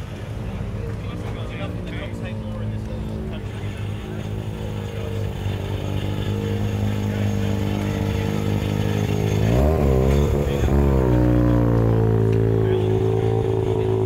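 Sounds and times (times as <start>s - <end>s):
car engine revving: 0.9s - 14.0s.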